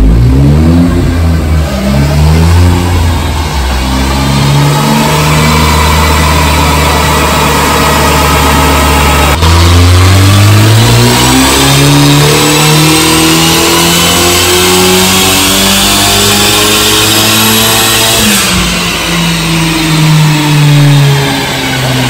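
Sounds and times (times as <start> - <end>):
car engine revving on a dyno: 0.0 - 22.0
high whine: 0.0 - 22.0.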